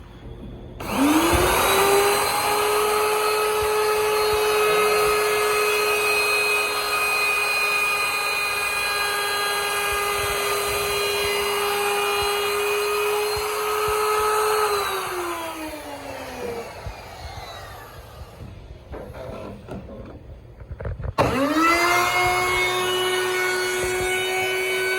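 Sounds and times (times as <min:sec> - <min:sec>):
router motor whining: 0:00.8 - 0:24.9.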